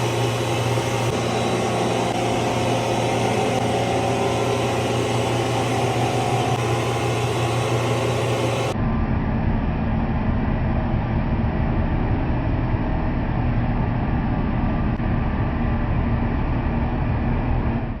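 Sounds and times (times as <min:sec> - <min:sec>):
mill machinery rumbling: 0:00.0 - 0:16.0.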